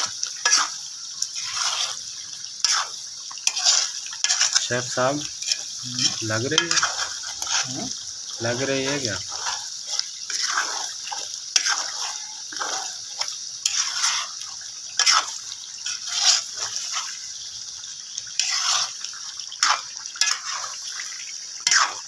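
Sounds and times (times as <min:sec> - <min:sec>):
spatula stirring wet gravy: 0:00.0 - 0:17.4, 0:18.0 - 0:22.0
steady sizzle: 0:00.0 - 0:22.0.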